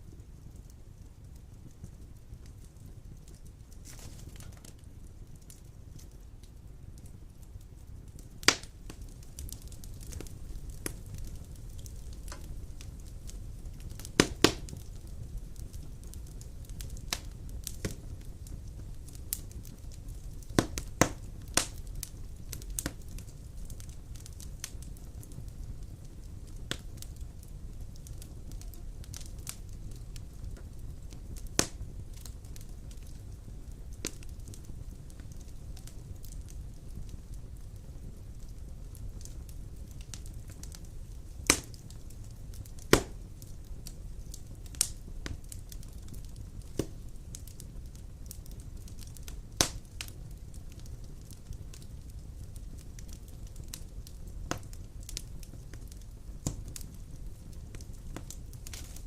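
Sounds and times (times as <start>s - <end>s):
fire crackling and popping: 0.0s - 59.0s
fire rumbling: 0.0s - 59.0s.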